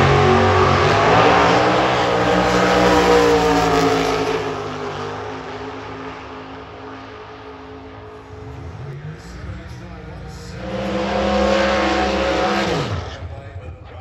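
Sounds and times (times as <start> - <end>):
drag racing car engine: 0.0 - 14.0.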